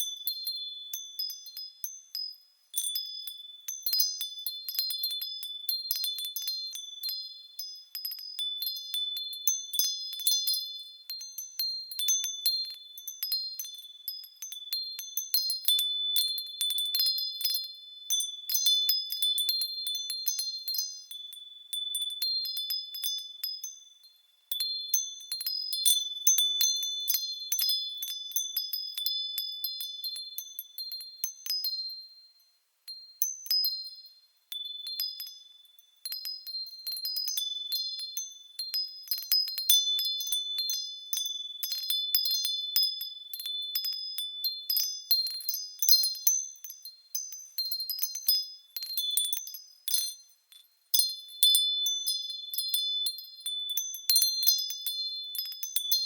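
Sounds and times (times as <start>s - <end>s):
wind chimes ringing: 0.0s - 56.0s.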